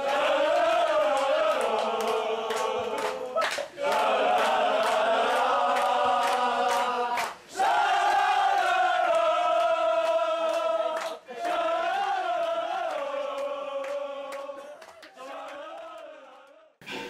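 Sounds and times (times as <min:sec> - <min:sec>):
rhythmic hand-clapping: 0:00.0 - 0:16.7
men singing a chant: 0:00.0 - 0:16.8.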